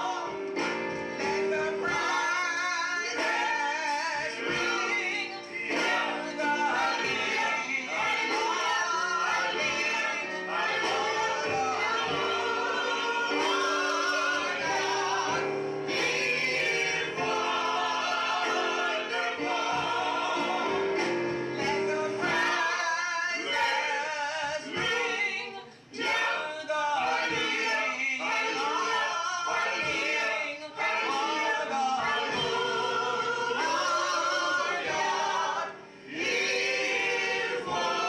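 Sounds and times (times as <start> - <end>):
gospel choir singing a hymn: 0.0 - 38.0.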